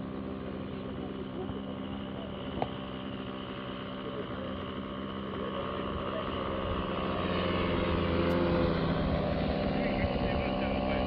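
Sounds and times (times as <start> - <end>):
model plane engine droning: 0.0 - 11.0.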